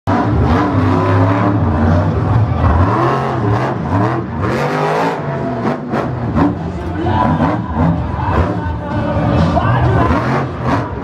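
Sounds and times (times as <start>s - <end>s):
monster truck engine revving: 0.1s - 11.0s.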